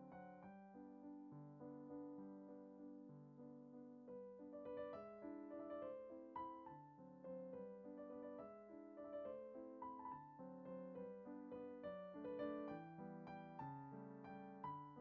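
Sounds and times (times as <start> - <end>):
quiet piano music: 0.0 - 15.0.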